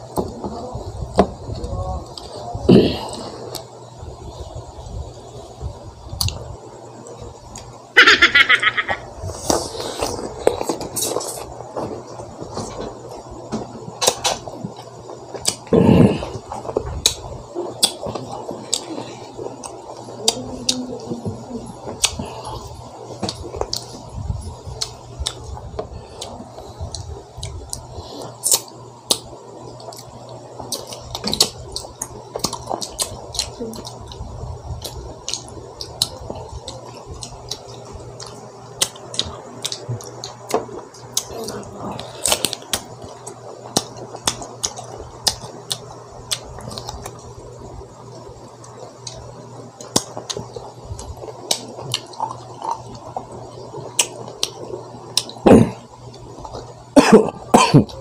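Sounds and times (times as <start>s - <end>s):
steady low hum: 0.0s - 58.0s
man chewing crunchy fruit: 8.6s - 58.0s.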